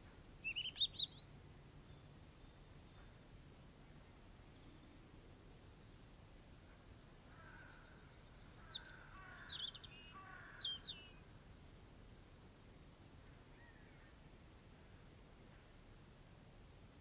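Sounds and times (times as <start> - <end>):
songbird singing: 0.0 - 11.4, 13.2 - 15.7
faint background hiss: 0.0 - 17.0.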